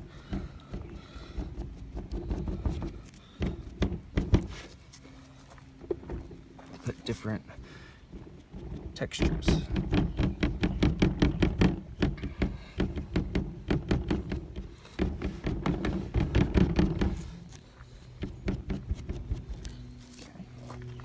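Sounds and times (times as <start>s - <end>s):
sock dabbing paint: 0.0s - 4.8s, 6.9s - 20.7s.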